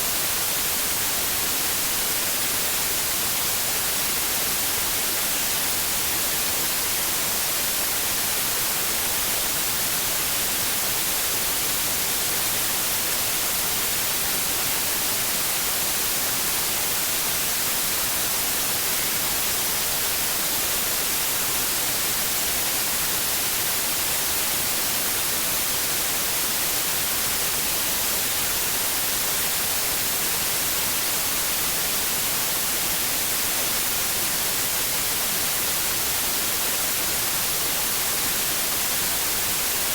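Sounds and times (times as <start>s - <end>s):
high white noise hiss: 0.0s - 39.9s.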